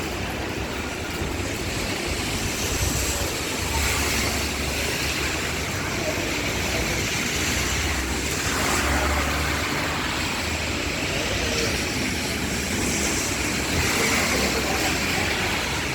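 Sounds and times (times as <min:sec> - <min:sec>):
rain rushing: 0:00.0 - 0:15.9.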